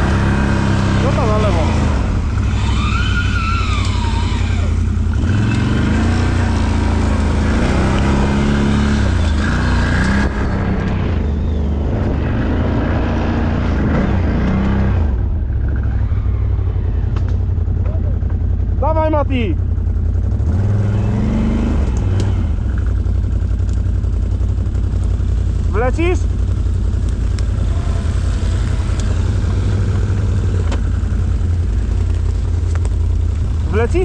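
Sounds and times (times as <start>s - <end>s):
quad bike engine revving: 0.0s - 34.0s.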